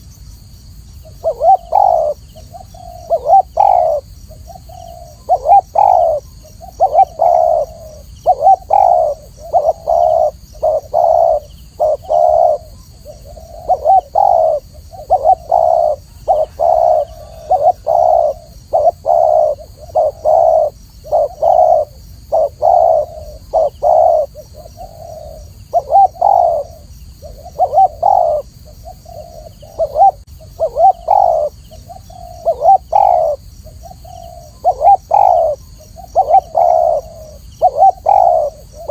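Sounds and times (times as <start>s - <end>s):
dove cooing: 1.0s - 38.9s.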